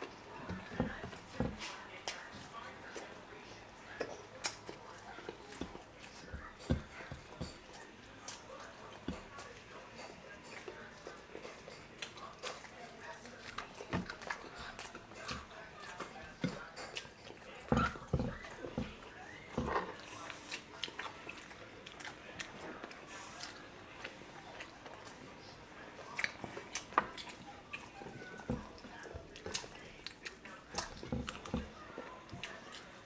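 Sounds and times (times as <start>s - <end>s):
people chewing: 0.0s - 33.0s.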